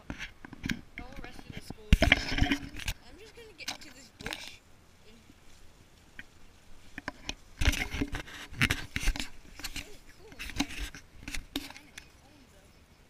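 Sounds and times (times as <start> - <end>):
leaves and branches scraping camera: 0.0 - 12.8.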